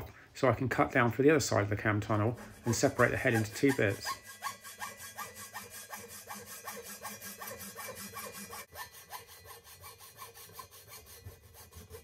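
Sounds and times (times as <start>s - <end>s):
hacksaw cutting aluminium: 2.2s - 12.0s.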